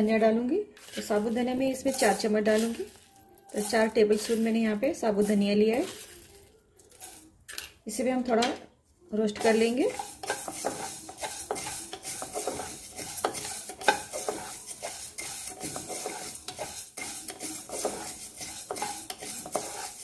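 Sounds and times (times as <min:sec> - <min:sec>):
wooden spatula stirring: 0:00.0 - 0:07.7, 0:09.3 - 0:20.0
seeds rattling in metal pan: 0:00.0 - 0:08.4, 0:09.3 - 0:20.0.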